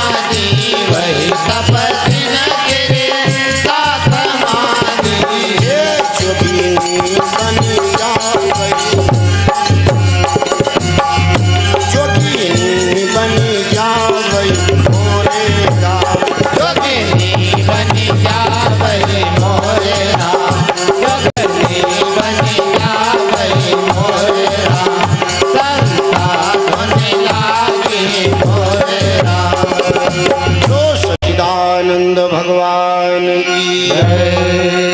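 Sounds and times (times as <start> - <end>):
man singing: 0.0 - 34.9
tabla: 0.0 - 34.9.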